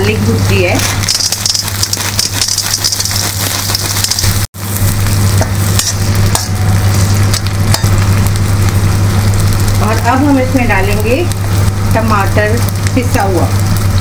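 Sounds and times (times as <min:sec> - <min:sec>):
peas sizzling in hot oil: 0:00.0 - 0:14.0.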